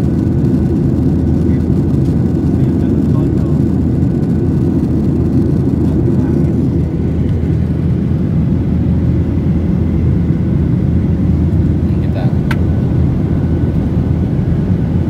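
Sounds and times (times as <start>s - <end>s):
airplane landing rumble: 0.0s - 15.0s.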